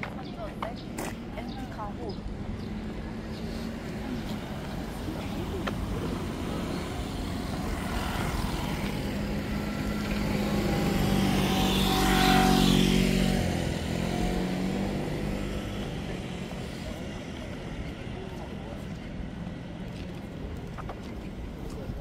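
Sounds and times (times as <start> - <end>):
passing engine hum: 0.0 - 22.0.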